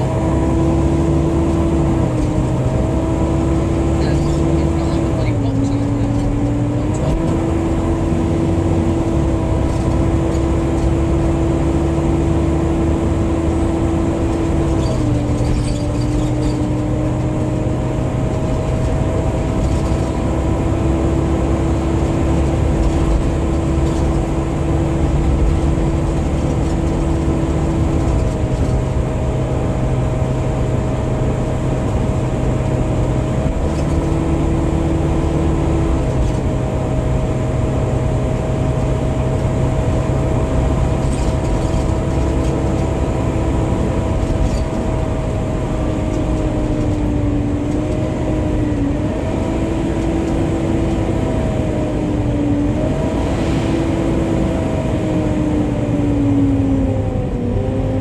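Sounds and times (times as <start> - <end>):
bus whine: 0.0 - 58.0
diesel bus engine drone: 0.0 - 58.0.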